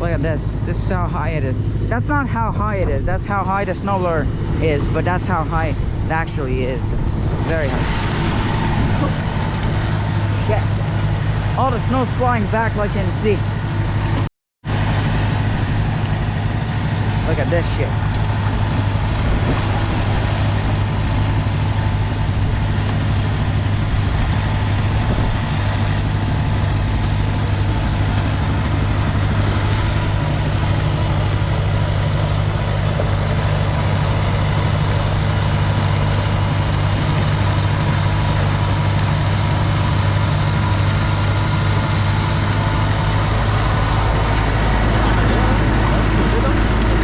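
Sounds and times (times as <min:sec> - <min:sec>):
engine droning steadily: 0:00.0 - 0:47.0.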